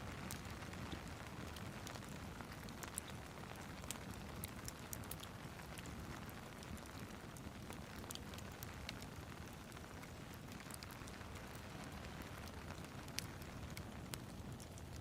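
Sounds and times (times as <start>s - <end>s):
fire crackling and popping: 0.0s - 15.0s
steady rain hiss: 0.0s - 15.0s.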